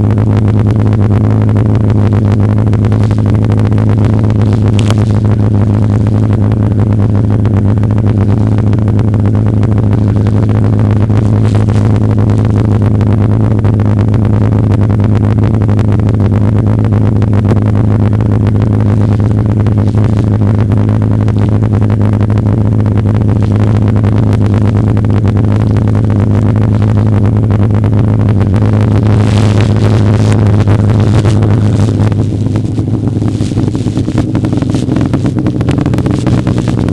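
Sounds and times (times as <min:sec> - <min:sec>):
snowmobile engine droning: 0:00.0 - 0:36.9.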